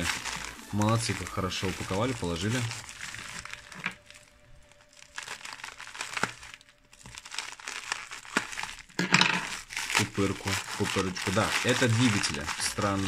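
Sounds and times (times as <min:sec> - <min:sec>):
bubble wrap crinkling: 0:00.0 - 0:13.0
scissors cutting wrap: 0:00.0 - 0:13.0.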